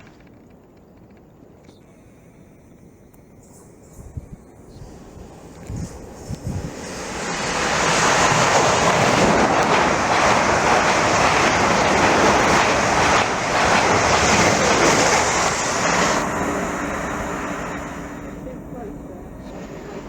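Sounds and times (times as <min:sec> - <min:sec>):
train passing at speed: 0:02.6 - 0:20.0.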